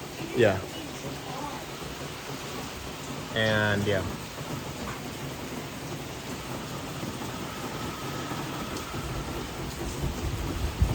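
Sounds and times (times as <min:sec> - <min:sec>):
rain falling: 0:00.0 - 0:10.9.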